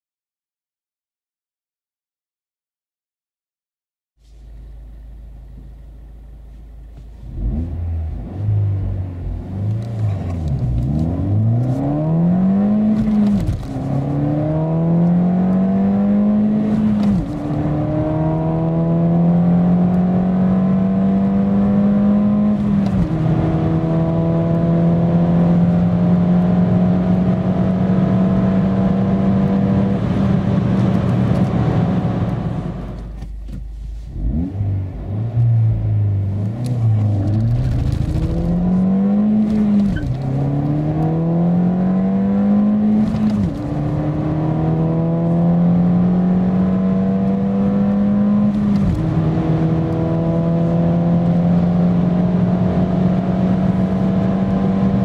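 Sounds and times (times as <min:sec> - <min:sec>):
car engine revving through gears: 0:07.2 - 0:33.3, 0:34.0 - 0:55.0.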